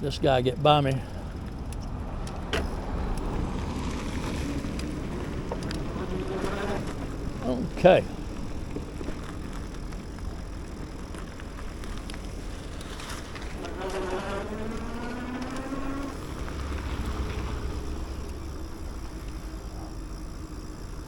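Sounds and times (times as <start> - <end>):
road rumble: 0.0 - 21.0
wind: 0.0 - 21.0
motor buzzing whine: 1.1 - 21.0.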